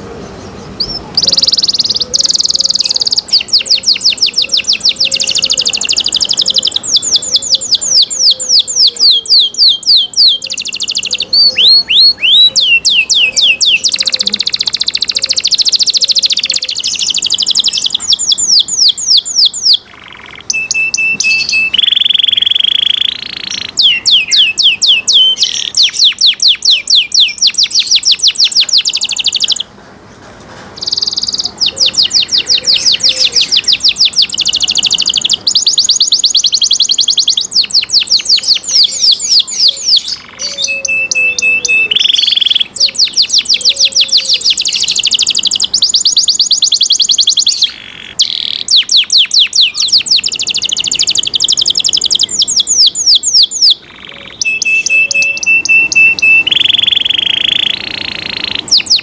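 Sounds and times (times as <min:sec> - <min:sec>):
canary singing: 0:00.0 - 0:29.8, 0:30.7 - 0:59.0.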